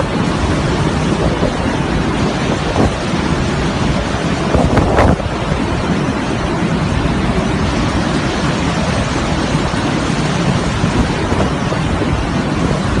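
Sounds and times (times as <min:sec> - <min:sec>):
driving rain: 0:00.0 - 0:13.0
hurricane wind: 0:00.0 - 0:13.0
wind buffeting microphone: 0:00.0 - 0:13.0.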